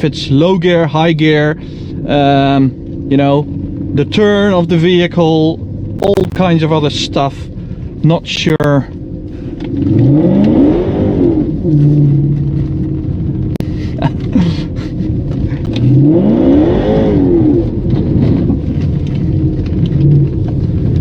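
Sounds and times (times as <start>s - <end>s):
car engine revving: 1.7s - 21.0s.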